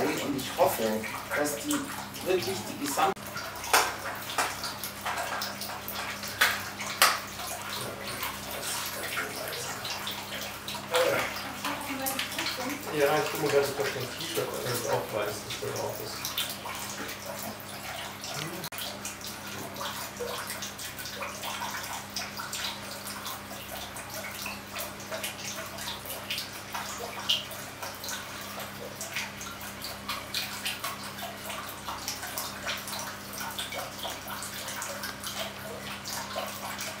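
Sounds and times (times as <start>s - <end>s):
water running and splashing: 0.0s - 37.0s.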